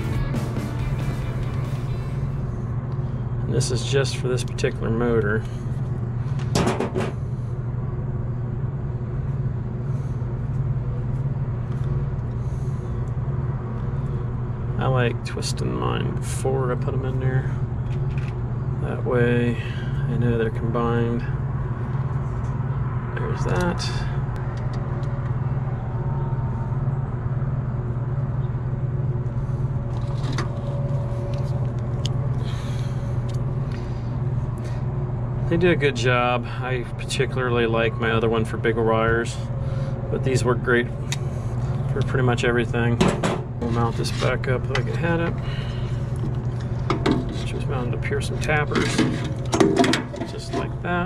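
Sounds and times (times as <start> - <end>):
low machinery hum: 0.0 - 51.0.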